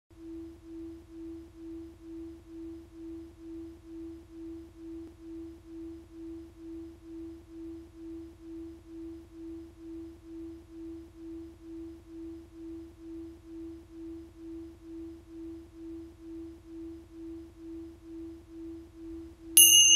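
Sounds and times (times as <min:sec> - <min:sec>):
faint low hum: 0:00.1 - 0:19.9
pulsing pure tone: 0:00.1 - 0:19.9.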